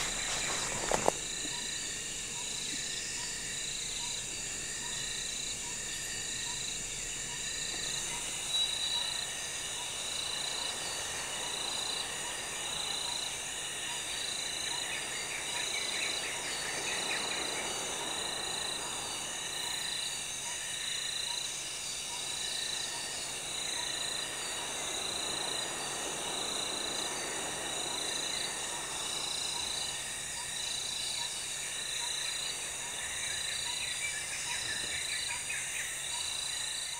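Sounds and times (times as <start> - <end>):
insect trills: 0.0 - 36.9.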